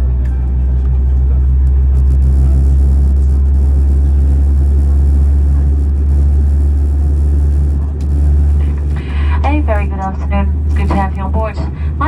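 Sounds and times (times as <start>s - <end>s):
airplane cabin rumble and hum: 0.0s - 12.0s.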